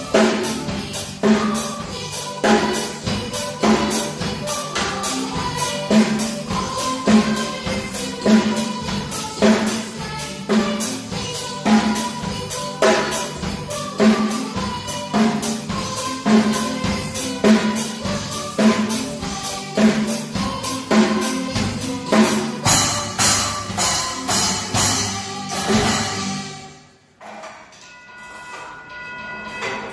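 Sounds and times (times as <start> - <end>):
drum kit playing beat: 0.0 - 27.0.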